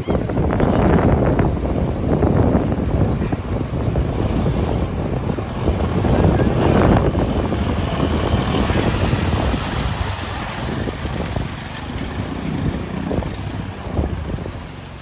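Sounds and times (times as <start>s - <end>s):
motorcycle engine rumble: 0.0s - 15.0s
rushing water: 0.0s - 15.0s
wind buffeting microphone: 0.0s - 15.0s.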